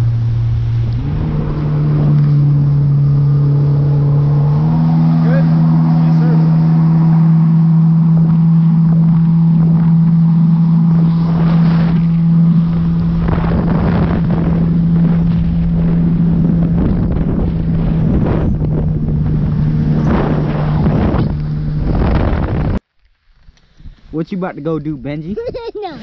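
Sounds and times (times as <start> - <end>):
rushing water: 0.0 - 22.7
jet ski engine drone: 0.0 - 22.8
wind buffeting microphone: 0.0 - 22.8.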